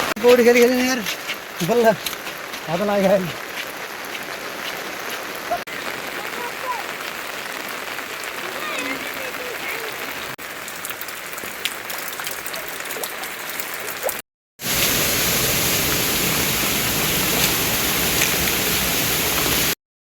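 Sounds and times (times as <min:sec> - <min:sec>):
rain falling: 0:00.0 - 0:19.8
raindrops ticking: 0:00.0 - 0:19.8.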